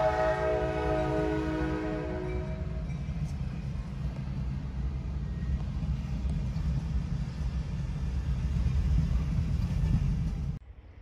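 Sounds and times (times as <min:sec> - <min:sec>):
train passing low rumble: 0:00.0 - 0:11.0.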